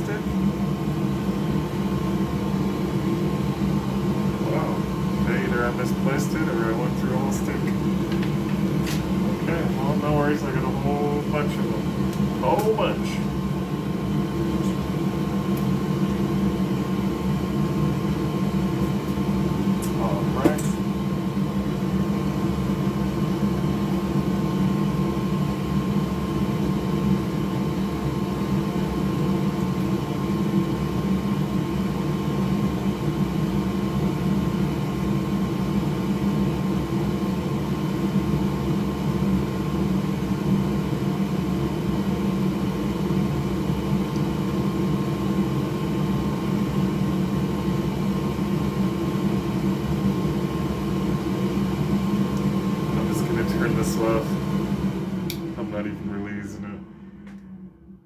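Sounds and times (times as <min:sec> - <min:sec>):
electric fan motor whirring: 0:00.0 - 0:58.0.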